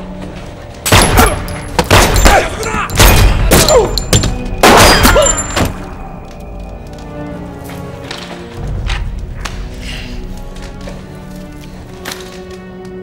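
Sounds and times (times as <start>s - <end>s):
tense music score with held tones: 0.0s - 13.0s.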